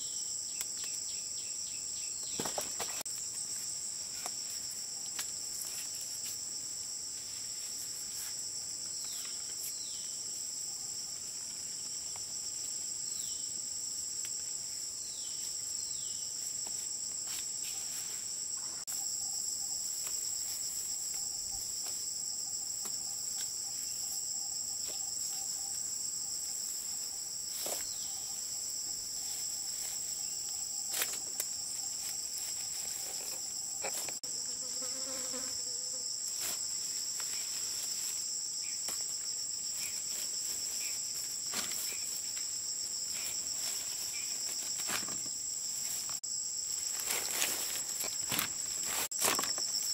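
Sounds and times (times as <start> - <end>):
insects chorus: 0.0 - 49.9.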